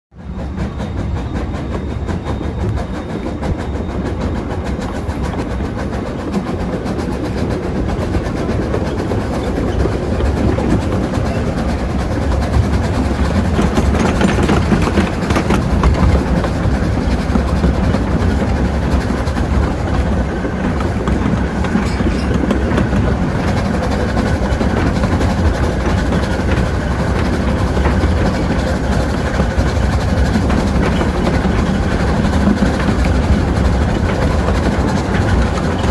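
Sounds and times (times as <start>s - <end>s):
train wheels rumbling on rails: 0.1s - 35.9s.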